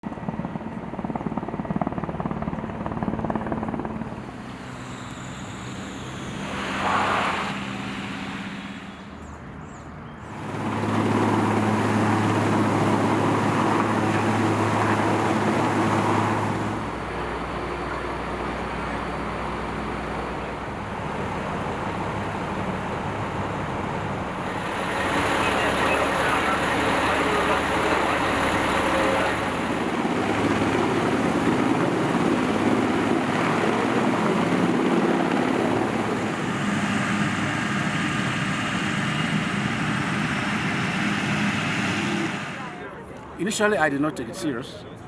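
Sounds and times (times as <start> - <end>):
helicopter engine: 0.0 - 45.0
vehicle engines humming: 3.6 - 45.0.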